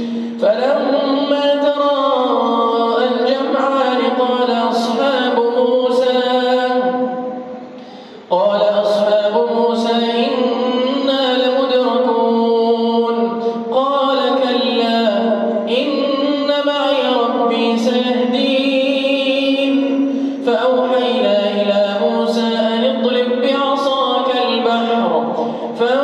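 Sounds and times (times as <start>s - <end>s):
man chanting melodically: 0.0s - 7.7s, 8.3s - 26.0s.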